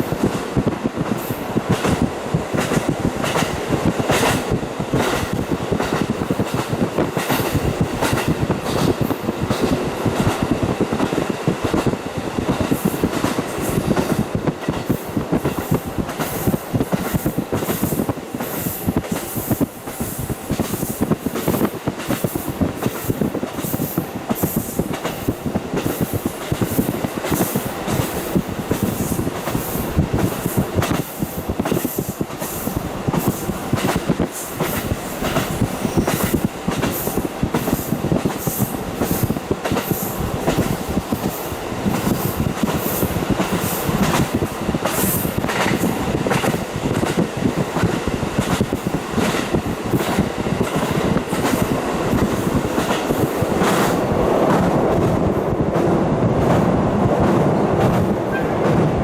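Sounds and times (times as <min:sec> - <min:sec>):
train rushing noise: 0:00.0 - 0:59.0
train wheels clicking over track: 0:00.0 - 0:59.0.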